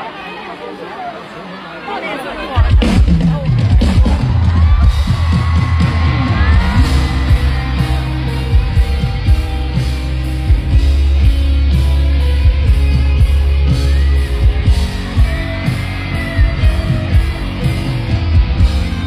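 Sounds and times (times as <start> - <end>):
live rock band playing: 2.6 - 19.0
steady drum beat: 2.6 - 19.0
heavy bass: 2.7 - 19.0.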